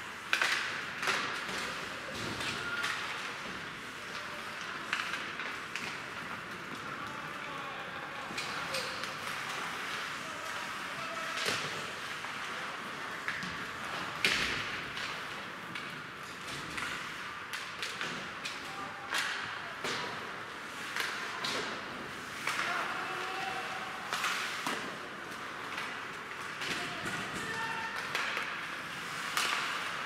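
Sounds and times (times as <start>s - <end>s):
hockey sticks and puck clacking: 0.1s - 30.0s.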